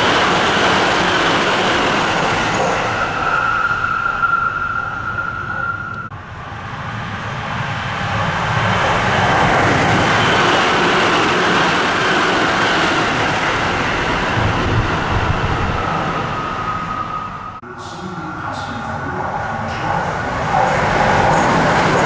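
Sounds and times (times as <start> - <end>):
train passing at high speed: 0.0 - 22.0.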